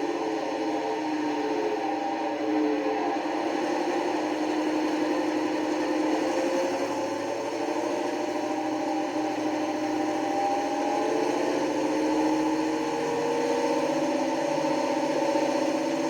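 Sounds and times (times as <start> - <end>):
diesel engine sound through small speaker: 0.0 - 16.0.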